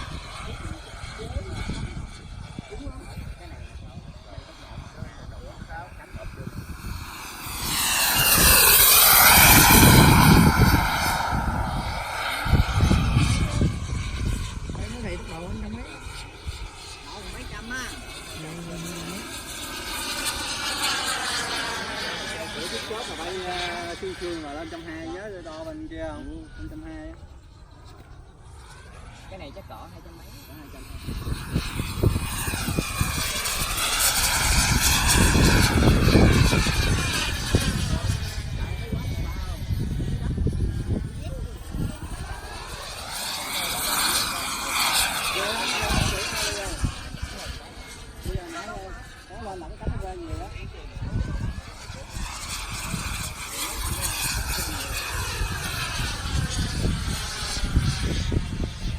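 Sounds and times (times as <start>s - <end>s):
model jet turbine whining: 0.0s - 58.9s
wind buffeting microphone: 0.0s - 58.9s.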